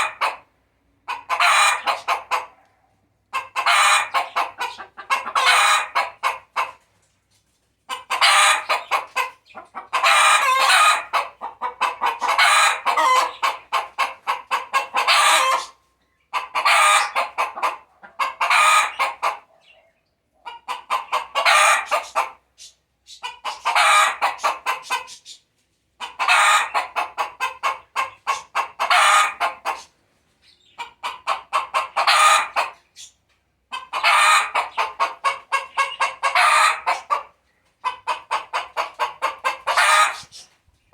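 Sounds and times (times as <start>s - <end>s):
hen cackling: 0.0s - 6.8s, 7.9s - 19.7s, 20.4s - 22.5s, 23.2s - 25.2s, 26.0s - 30.0s, 30.6s - 32.8s, 33.7s - 40.5s.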